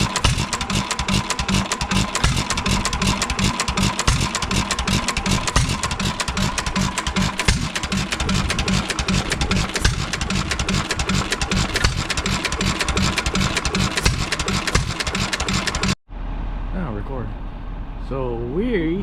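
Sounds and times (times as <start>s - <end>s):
sharp mechanical clicks: 0.0s - 16.0s
single-cylinder engine running: 0.0s - 16.0s.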